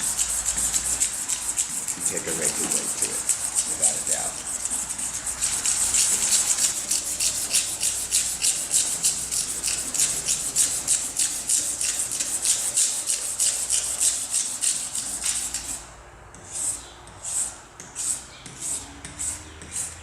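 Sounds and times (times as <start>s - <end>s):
hand rubbing painted panel: 0.0s - 20.0s.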